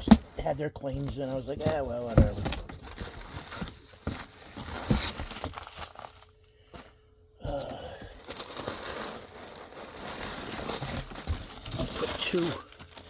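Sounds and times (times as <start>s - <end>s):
packaging crinkling: 1.1s - 7.0s, 7.6s - 13.0s.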